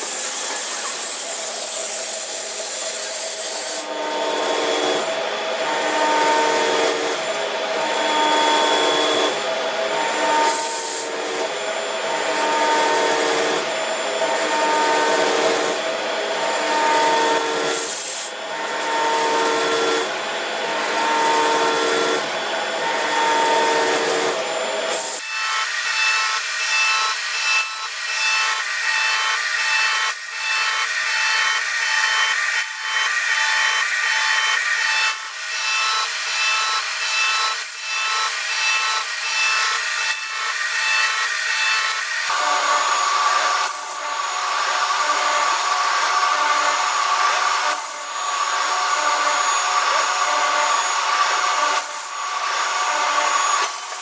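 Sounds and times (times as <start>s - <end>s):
gear cutting machine whine: 0.0s - 54.0s.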